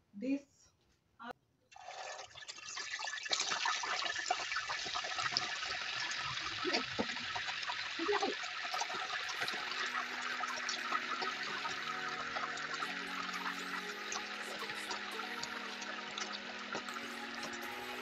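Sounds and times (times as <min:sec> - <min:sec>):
oil popping: 0:01.8 - 0:17.0
chicken sizzling in hot oil: 0:01.8 - 0:18.0.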